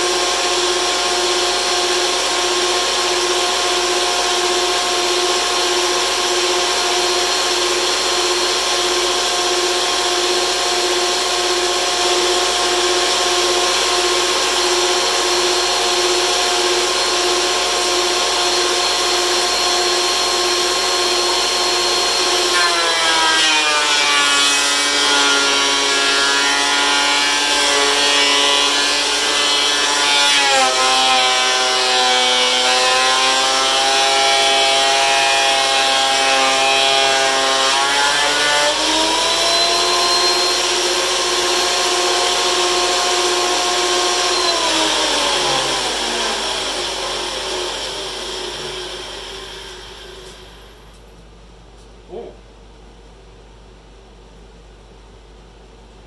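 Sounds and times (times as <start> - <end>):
thickness planer whining: 0.0 - 51.0.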